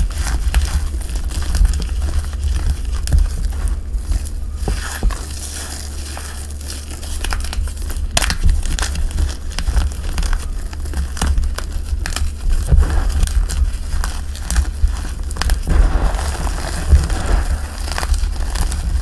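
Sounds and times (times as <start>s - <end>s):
powder crunching and crackling: 0.0s - 19.0s.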